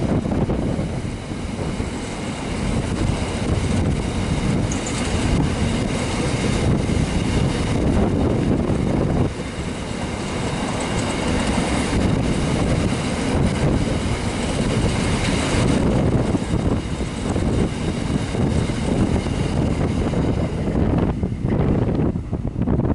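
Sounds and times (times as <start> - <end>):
train wheels clicking over rail joints: 0.0 - 22.4.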